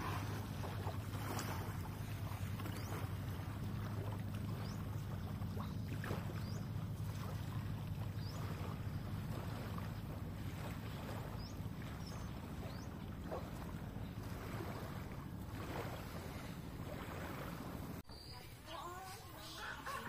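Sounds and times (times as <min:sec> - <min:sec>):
low motor hum: 0:00.0 - 0:18.1.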